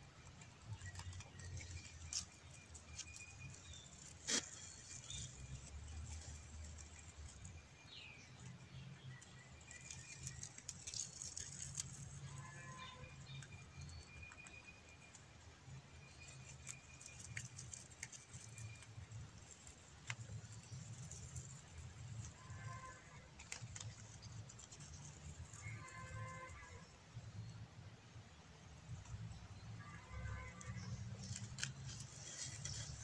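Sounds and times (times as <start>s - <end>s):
rabbit nibbling leaves: 0.0s - 27.5s, 28.6s - 33.0s.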